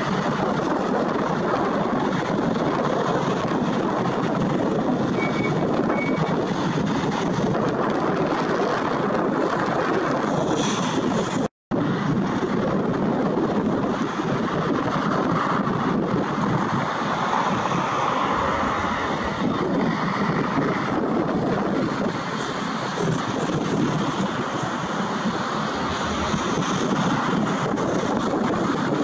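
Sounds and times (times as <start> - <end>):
jet engines rushing rumble: 0.0 - 29.0.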